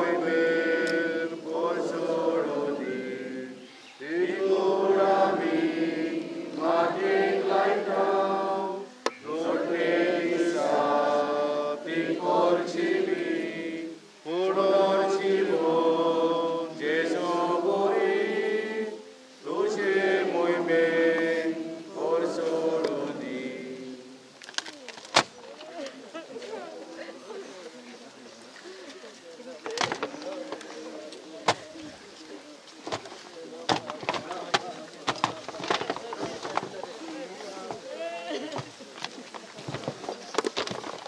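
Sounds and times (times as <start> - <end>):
crowd singing a hymn: 0.0 - 24.4, 29.6 - 40.9.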